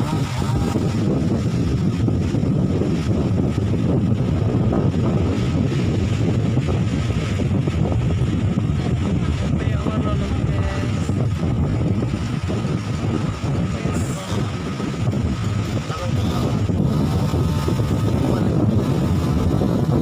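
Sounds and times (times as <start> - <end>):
vehicle engine running: 0.0 - 20.0
wind buffeting microphone: 0.0 - 20.0.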